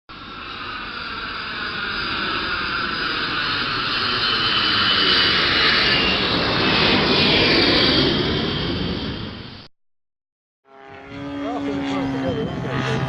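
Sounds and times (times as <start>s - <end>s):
jet turbine whine: 0.1s - 9.7s, 10.7s - 13.0s.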